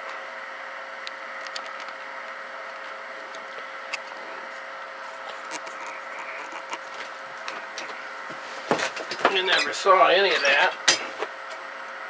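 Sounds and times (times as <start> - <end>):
amplifier whir and hum: 0.0 - 12.0.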